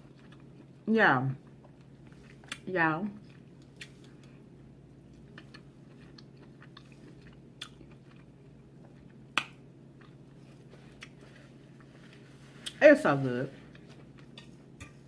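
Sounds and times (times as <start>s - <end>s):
person chewing: 0.0s - 0.8s, 1.4s - 2.6s, 3.2s - 12.8s, 13.6s - 15.0s.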